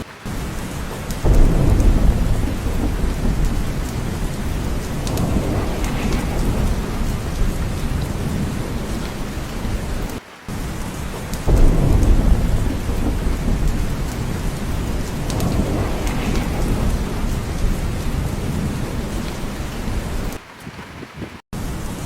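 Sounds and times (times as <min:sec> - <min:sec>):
rolling thunder: 0:00.0 - 0:21.4
steady rain: 0:00.0 - 0:22.0.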